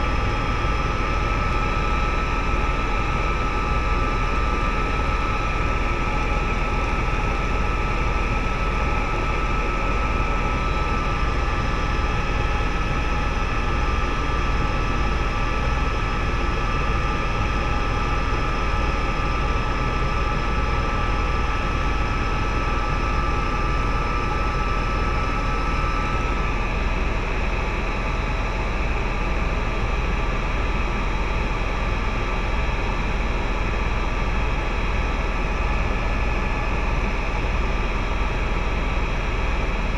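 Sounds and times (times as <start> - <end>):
helicopter engine and rotor drone: 0.0 - 39.9
steady whine: 0.0 - 39.9.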